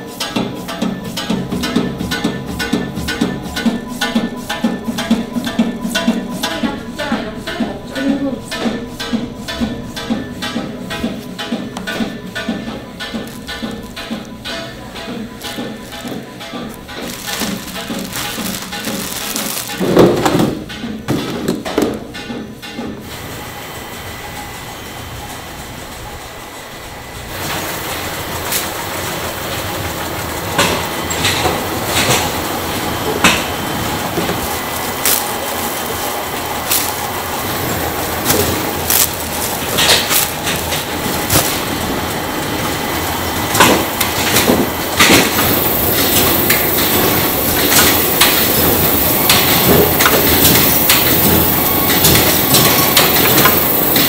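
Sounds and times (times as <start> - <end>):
machinery clanks and clicks: 0.0 - 54.0.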